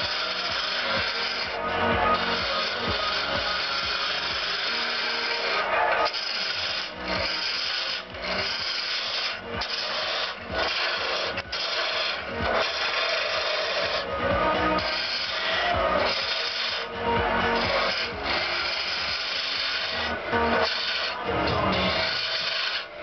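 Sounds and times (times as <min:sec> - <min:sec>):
wood lathe tool shaving wood: 0:00.0 - 0:23.0.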